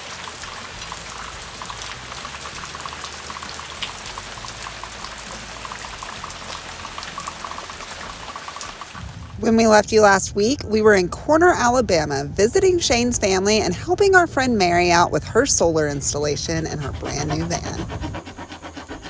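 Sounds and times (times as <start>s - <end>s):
rain falling: 0.0s - 16.2s.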